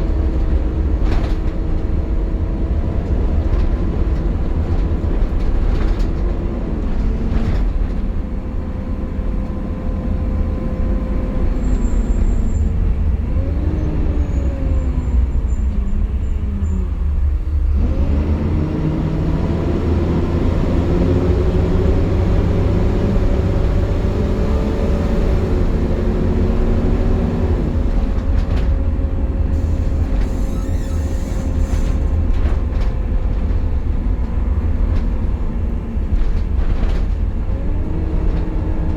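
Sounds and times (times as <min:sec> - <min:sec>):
bus engine drone: 0:00.0 - 0:38.9.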